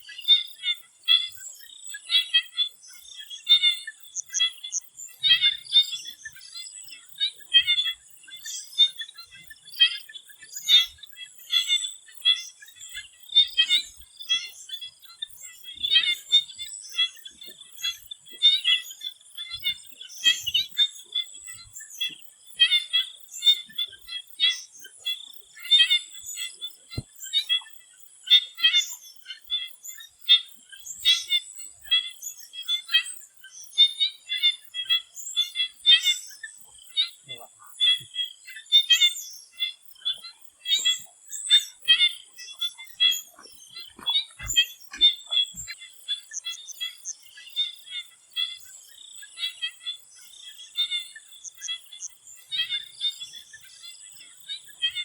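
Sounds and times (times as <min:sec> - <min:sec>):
chorus of frogs croaking: 0:00.0 - 0:55.0.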